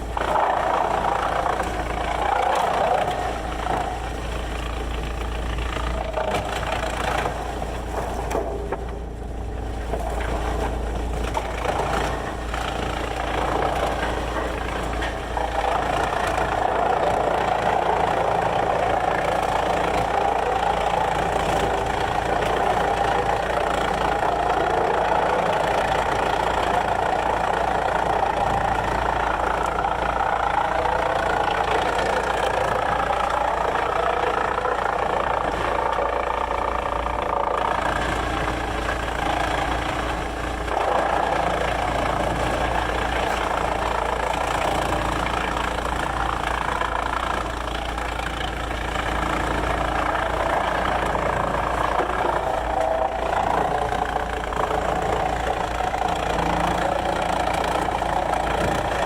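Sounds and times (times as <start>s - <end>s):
heavy sawmill machinery running: 0.0s - 59.0s.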